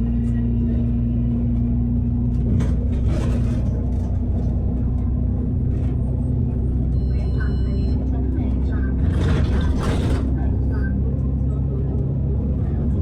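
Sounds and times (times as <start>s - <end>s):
bus engine running: 0.0s - 13.0s
road noise: 0.0s - 13.0s.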